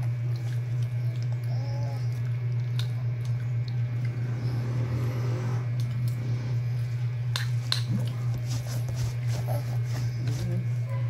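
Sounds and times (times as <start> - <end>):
baby chewing with wet smacking: 0.0 - 4.3, 5.7 - 10.9
steady low hum: 0.0 - 11.0.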